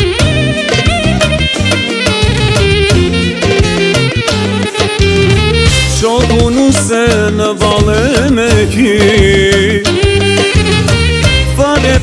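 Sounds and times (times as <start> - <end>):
folk band ornamented lead melody: 0.0 - 12.0
pulsing bass and drum beat: 0.0 - 12.0.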